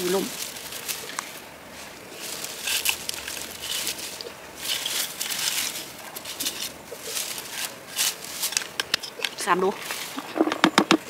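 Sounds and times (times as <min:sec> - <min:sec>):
comb raking through bushes: 0:00.0 - 0:10.4.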